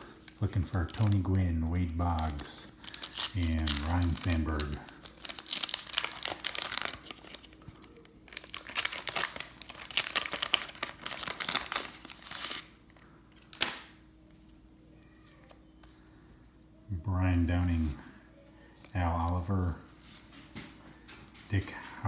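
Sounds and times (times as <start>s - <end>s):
wax paper wrapper crinkling: 0.0s - 22.0s.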